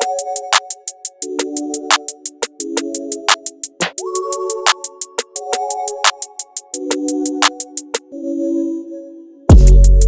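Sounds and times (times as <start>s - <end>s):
electronic music with hi-hat beat: 0.0s - 8.1s, 9.5s - 10.0s.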